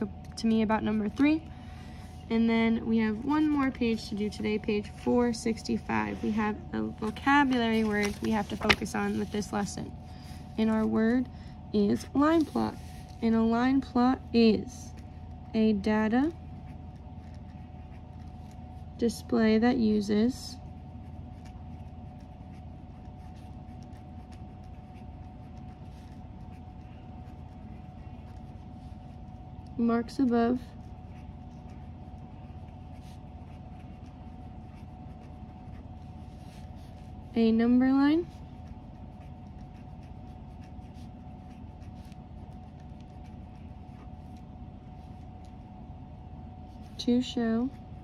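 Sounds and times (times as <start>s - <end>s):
low background hum: 0.0s - 48.0s
pen scratching on paper: 2.4s - 11.2s, 11.8s - 19.0s, 20.7s - 45.7s.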